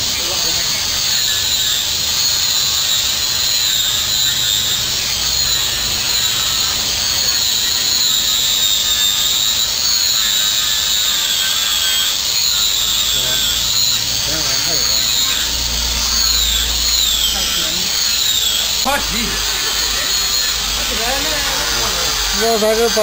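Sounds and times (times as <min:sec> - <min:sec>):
power tool whining: 0:00.0 - 0:23.0.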